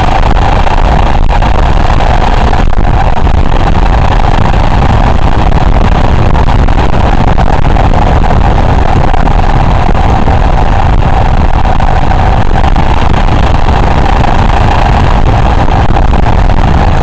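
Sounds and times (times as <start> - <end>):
road noise: 0.0 - 17.0
vehicle engine drone: 0.0 - 17.0.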